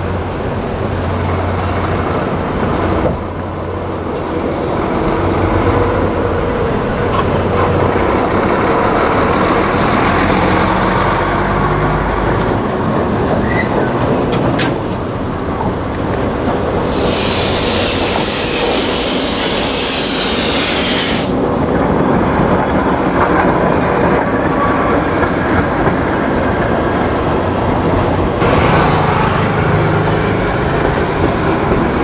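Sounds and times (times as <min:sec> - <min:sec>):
steam locomotive pulling away: 0:00.0 - 0:32.0.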